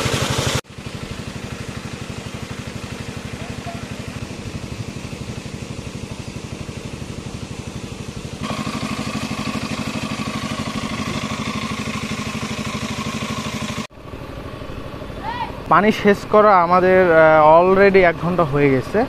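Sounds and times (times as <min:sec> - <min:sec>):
engine-driven water pump running: 0:00.0 - 0:19.0.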